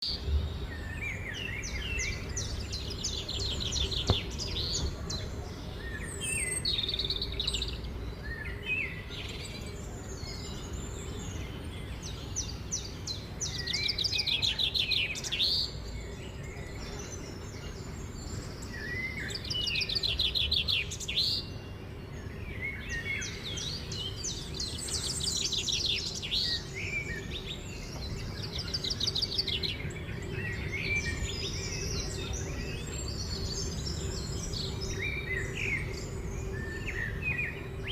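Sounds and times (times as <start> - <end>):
songbird trills and chirps: 0.0 - 37.9.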